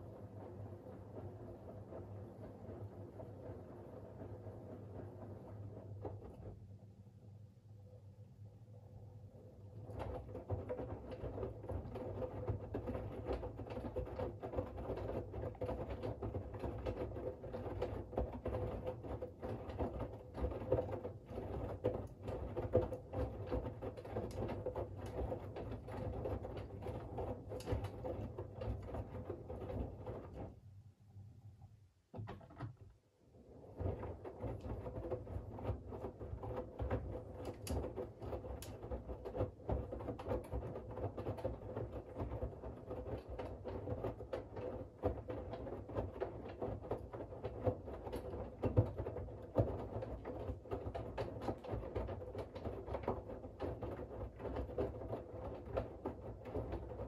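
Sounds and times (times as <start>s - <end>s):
laundry and water tumbling: 9.7s - 30.7s, 32.1s - 57.0s.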